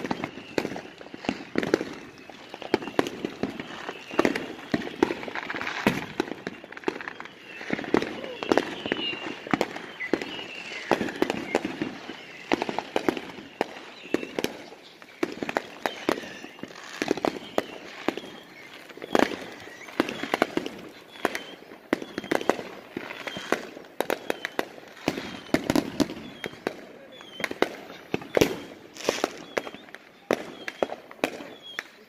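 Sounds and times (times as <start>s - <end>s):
fireworks bangs and pops: 0.0s - 32.0s.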